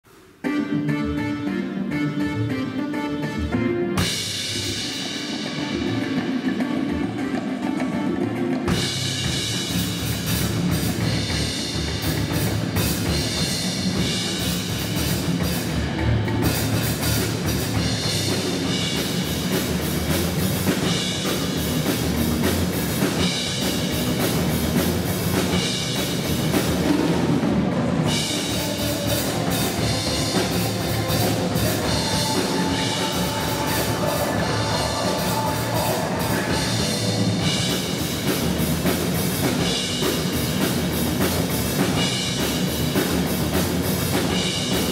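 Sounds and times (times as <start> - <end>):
drum kit playing fast pattern: 3.2 - 44.9.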